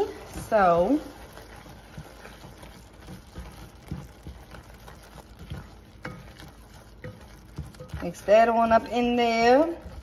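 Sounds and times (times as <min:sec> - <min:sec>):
spatula knocking and scraping pot: 0:00.0 - 0:10.0
vegetables sizzling: 0:00.0 - 0:10.0.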